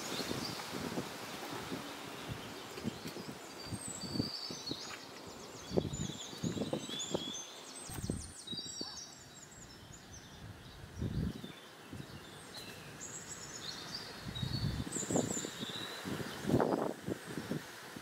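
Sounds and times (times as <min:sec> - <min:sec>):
birds chirping and singing: 0:01.6 - 0:16.9.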